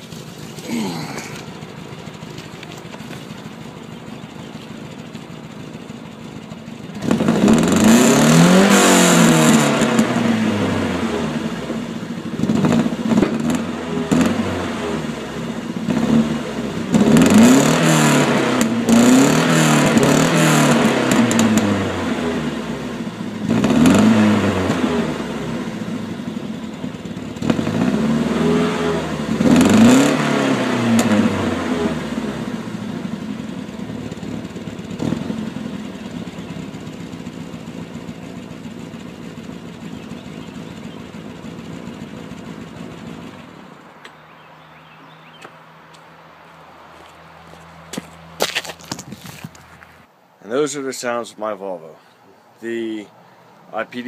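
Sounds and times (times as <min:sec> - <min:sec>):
car engine idling and revving: 0:00.0 - 0:50.1.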